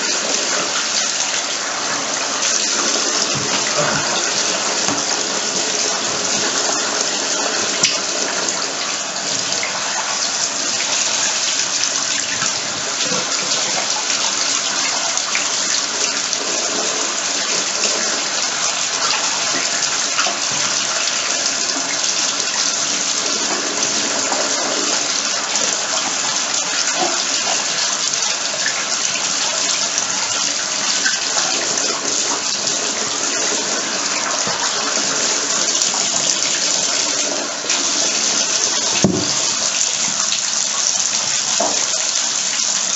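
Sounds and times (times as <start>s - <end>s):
water running into bathtub: 0.0s - 42.9s.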